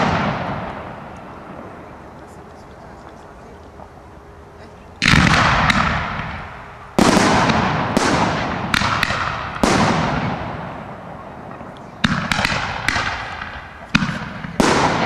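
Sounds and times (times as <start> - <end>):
sharp firework reports: 0.0 - 3.9, 5.0 - 15.0
firework crackle: 0.0 - 4.0, 5.0 - 15.0
fireworks bangs: 0.0 - 4.0, 5.0 - 15.0.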